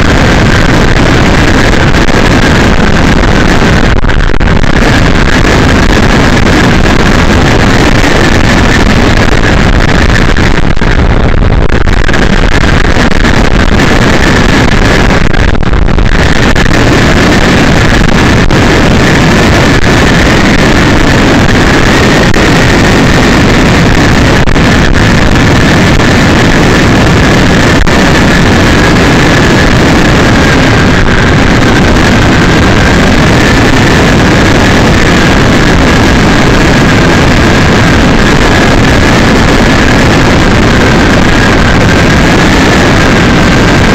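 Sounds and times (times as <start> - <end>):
faint high whine: 0.0 - 43.9
wind and road noise: 0.0 - 43.9.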